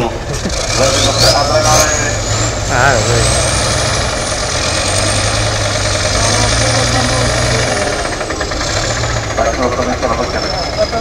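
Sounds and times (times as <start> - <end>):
diesel truck engines under load: 0.0 - 11.0.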